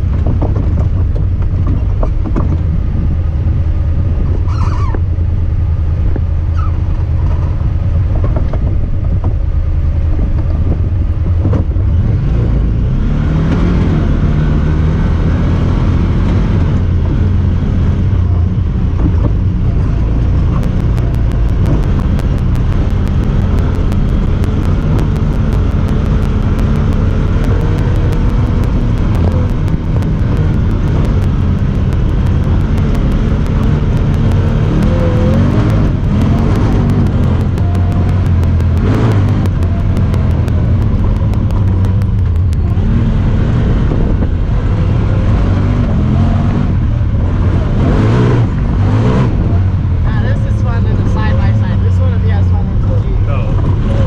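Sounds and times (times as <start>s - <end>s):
vehicle engine rumbling under load: 0.0s - 54.0s.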